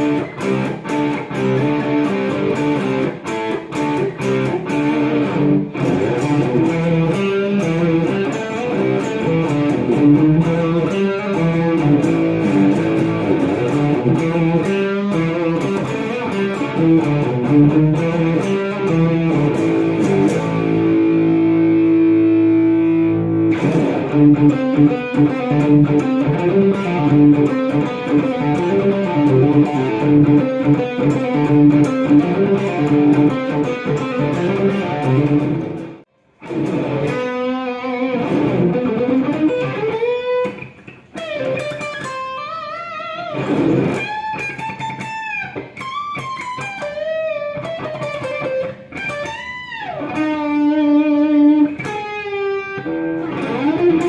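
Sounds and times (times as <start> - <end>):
electric guitar playing notes: 0.0 - 54.0.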